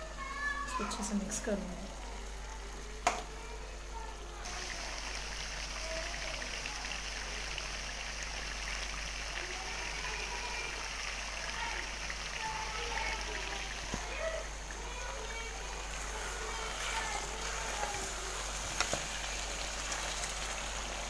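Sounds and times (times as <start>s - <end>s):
chicken sizzling in pan: 0.0s - 21.0s.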